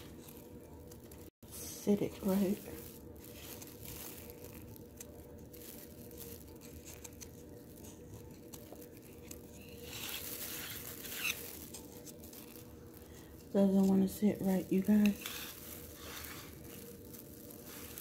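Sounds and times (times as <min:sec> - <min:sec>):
faint hum: 0:00.0 - 0:18.0
food wrapping rustling: 0:00.0 - 0:18.0.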